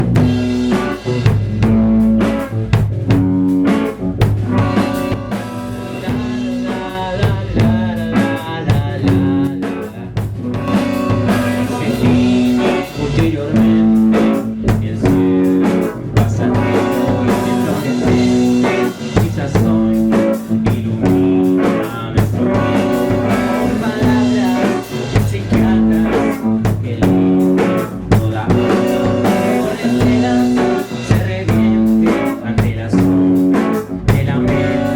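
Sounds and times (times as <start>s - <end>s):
drum kit steady beat: 0.0s - 34.9s
rock band playing: 0.0s - 34.9s.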